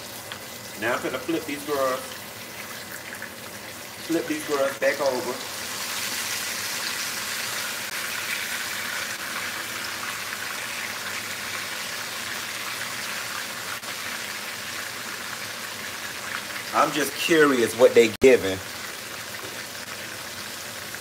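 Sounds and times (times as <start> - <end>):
pork chops sizzling: 0.0 - 21.0.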